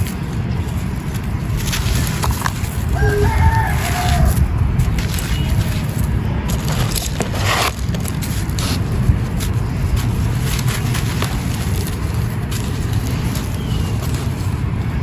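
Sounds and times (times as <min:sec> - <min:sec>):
powder lumps crunching by hand: 0:00.0 - 0:15.0
wind rumble on microphone: 0:00.0 - 0:15.0.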